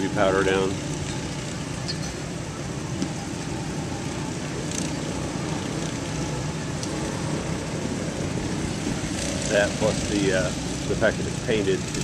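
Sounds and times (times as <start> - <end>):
engines rumbling: 0.0 - 12.0
outdoor background noise: 0.0 - 12.0.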